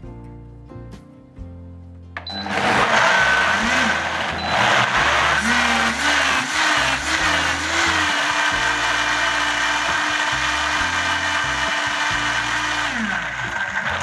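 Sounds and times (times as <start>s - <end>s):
blender motor running: 2.3s - 14.0s.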